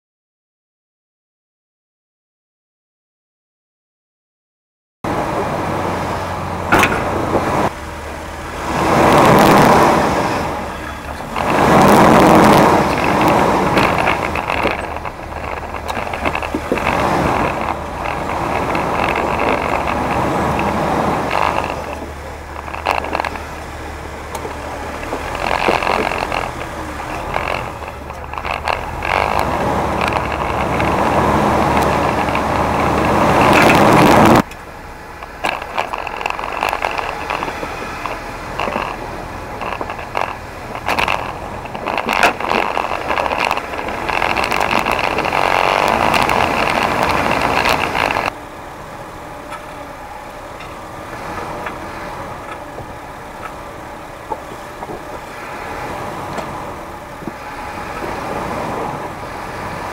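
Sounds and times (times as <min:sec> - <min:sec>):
off-road vehicle engines: 0:05.0 - 0:59.9.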